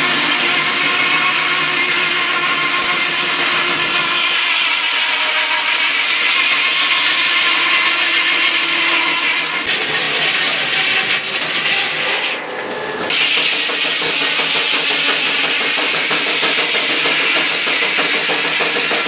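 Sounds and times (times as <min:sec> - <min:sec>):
sawmill machinery humming: 0:00.0 - 0:19.0.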